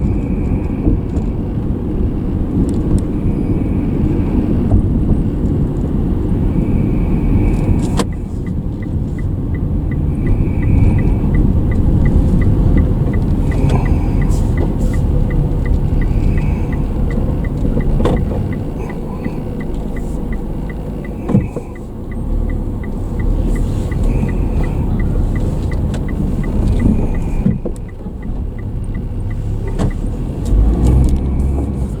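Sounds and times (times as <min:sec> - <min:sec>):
car cabin rumble: 0:00.0 - 0:32.0
turn signal ticking: 0:00.0 - 0:32.0.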